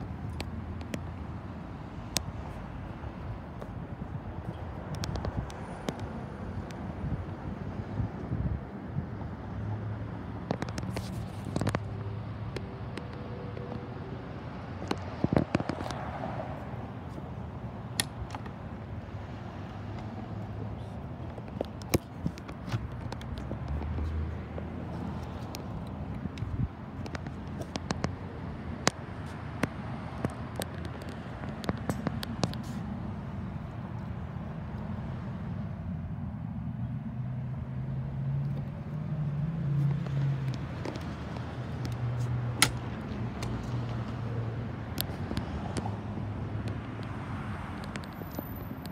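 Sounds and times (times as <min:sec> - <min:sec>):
vehicle engine humming: 0:00.0 - 0:48.9.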